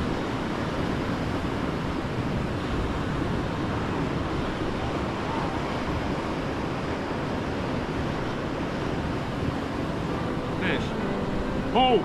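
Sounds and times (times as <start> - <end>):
wind rumble on microphone: 0.0 - 11.8.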